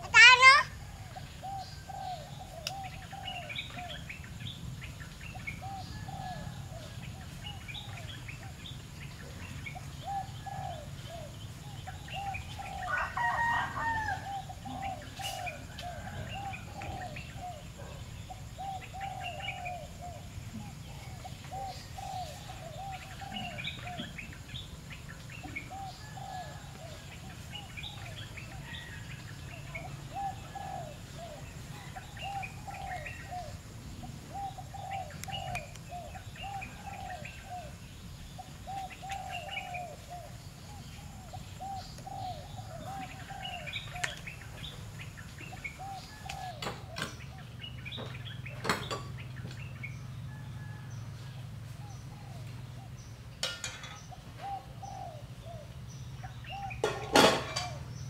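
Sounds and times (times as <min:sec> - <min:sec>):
bird cooing: 0:00.0 - 0:04.4, 0:05.3 - 0:24.7, 0:25.4 - 0:29.0, 0:29.6 - 0:44.8, 0:45.4 - 0:48.7, 0:50.3 - 0:53.0, 0:53.8 - 0:57.9
loud full bird call: 0:00.0 - 0:58.0.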